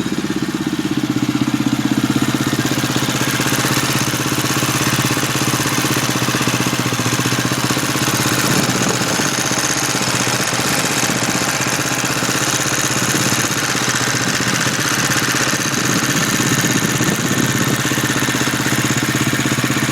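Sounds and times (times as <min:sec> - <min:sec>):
motorcycle engine idling with whirring: 0:00.0 - 0:19.9.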